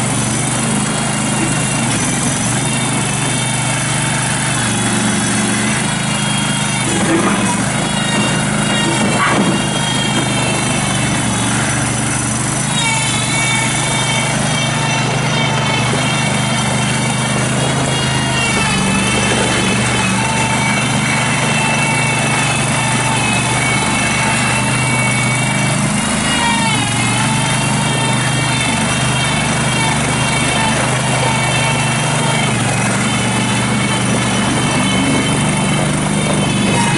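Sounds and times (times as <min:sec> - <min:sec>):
gas engine running: 0:00.0 - 0:36.9
high whine: 0:00.0 - 0:36.9.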